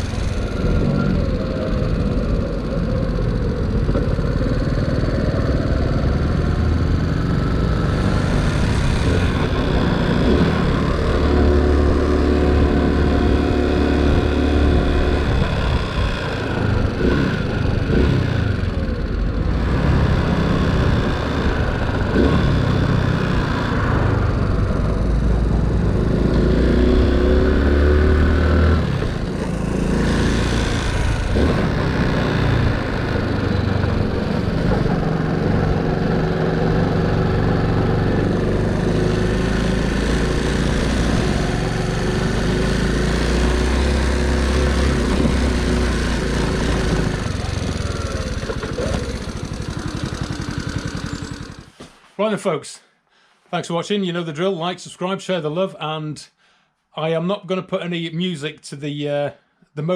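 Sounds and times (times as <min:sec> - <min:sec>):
small motorcycle engine: 0:00.0 - 0:52.0.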